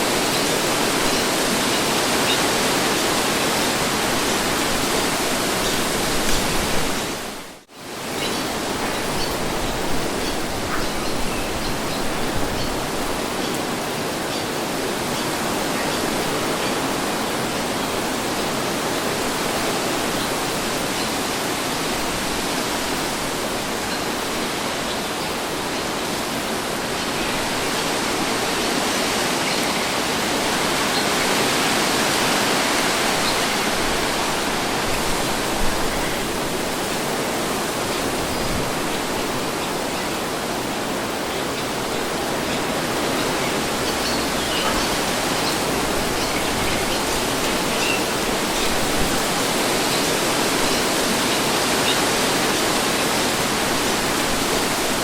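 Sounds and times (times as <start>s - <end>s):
wind blowing: 0.0s - 55.0s.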